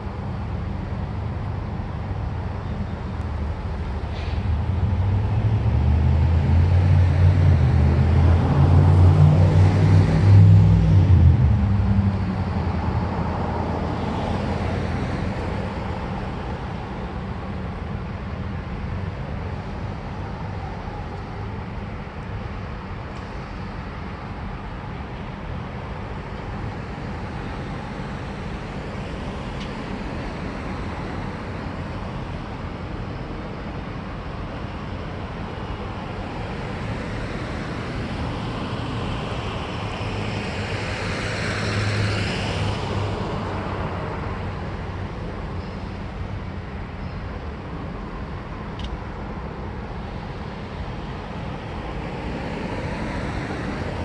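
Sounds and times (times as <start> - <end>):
road traffic driving past: 0.0 - 54.0
vehicle low rumble: 0.0 - 54.0.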